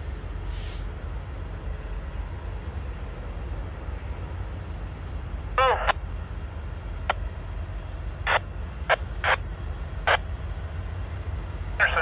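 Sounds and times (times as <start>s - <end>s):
diesel locomotives rumbling: 0.0s - 12.0s.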